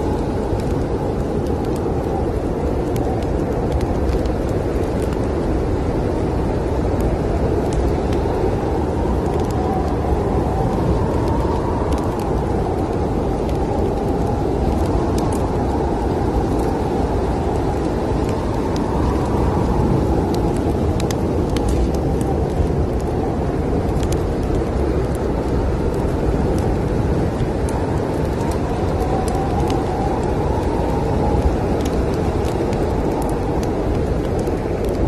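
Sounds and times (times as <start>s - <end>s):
snowstorm wind rushing: 0.0s - 35.0s
wood fire crackling: 0.0s - 35.0s.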